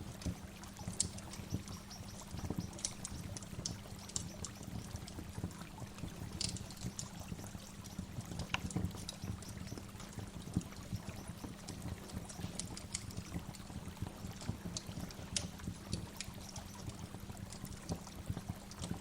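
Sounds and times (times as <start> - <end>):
waterfall splashing and trickling: 0.0 - 19.0.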